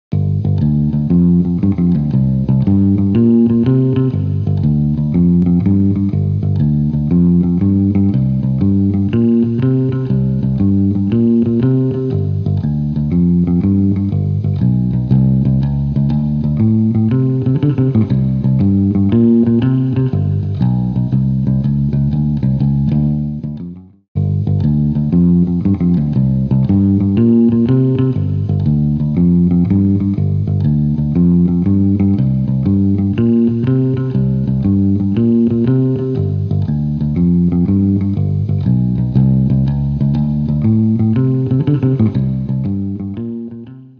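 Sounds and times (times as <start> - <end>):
guitar rhythmic pattern: 0.1 - 43.9
plucked bass: 0.1 - 43.9.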